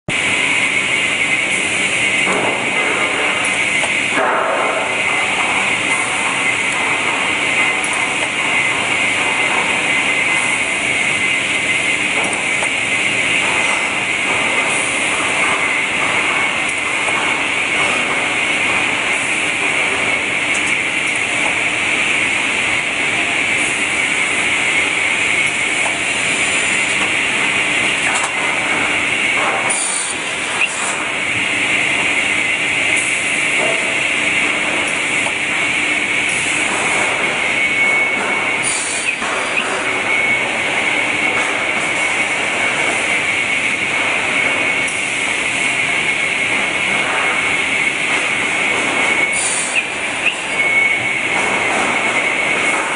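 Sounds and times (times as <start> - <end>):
lumber saw machine running: 0.1 - 52.9.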